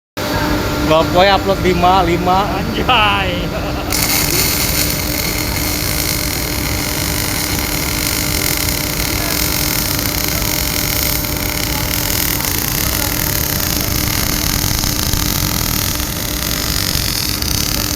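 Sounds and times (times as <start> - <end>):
faint constant hum: 0.2 - 17.9
welding arc hissing: 2.0 - 17.9.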